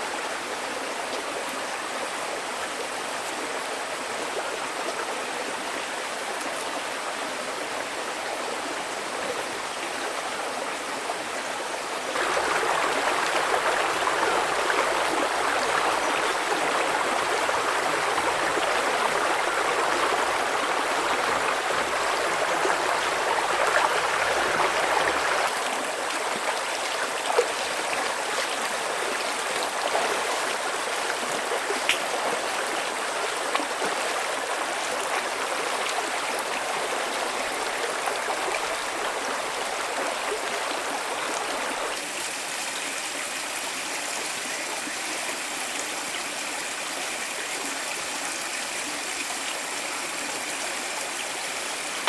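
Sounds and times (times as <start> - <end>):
stream running: 0.0 - 52.0.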